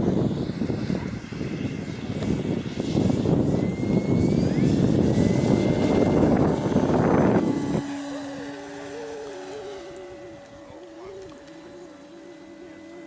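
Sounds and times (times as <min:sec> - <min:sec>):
faint steady tones: 0:00.0 - 0:13.0
model plane motor and propeller: 0:00.0 - 0:13.0.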